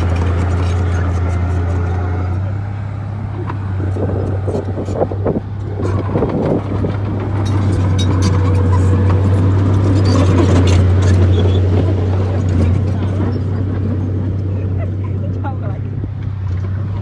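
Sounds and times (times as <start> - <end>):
clanks and rattles: 0.0 - 2.5, 3.3 - 17.0
bulldozer diesel engine droning: 0.0 - 17.0.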